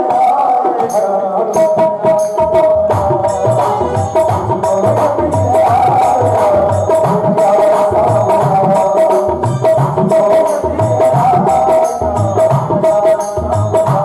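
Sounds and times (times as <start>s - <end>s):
hand drum beat: 0.0s - 14.0s
held melody line: 1.6s - 14.0s.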